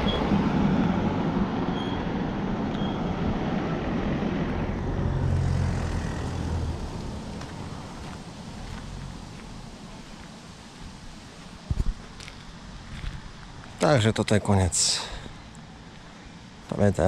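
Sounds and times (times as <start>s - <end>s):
low engine hum: 0.0s - 14.0s
car engine rumbling: 0.0s - 17.0s.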